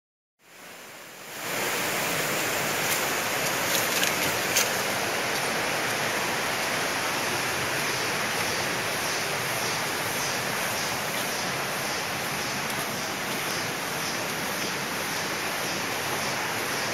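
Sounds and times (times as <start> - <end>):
forest stream rushing: 0.4 - 16.9.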